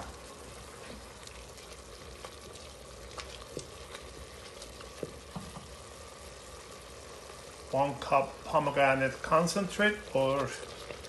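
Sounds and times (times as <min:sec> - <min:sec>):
paste sizzling in a pot: 0:00.0 - 0:11.0.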